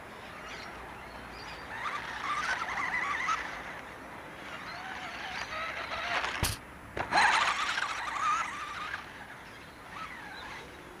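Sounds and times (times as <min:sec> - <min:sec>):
rc buggy motor whining: 0:00.0 - 0:11.0.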